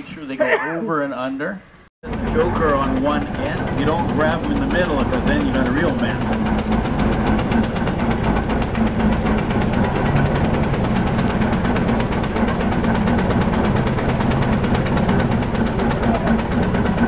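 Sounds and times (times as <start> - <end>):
steam winch running: 2.0 - 17.0.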